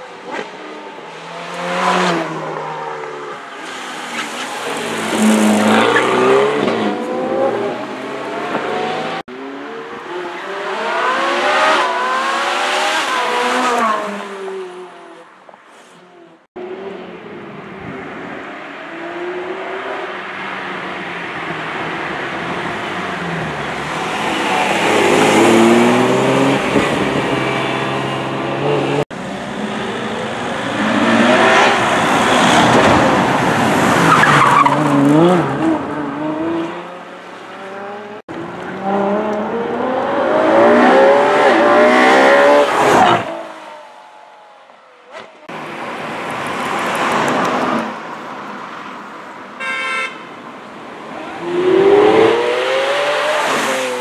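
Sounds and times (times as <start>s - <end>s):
car engines revving hard: 0.0s - 15.1s, 16.5s - 43.9s, 50.9s - 54.0s.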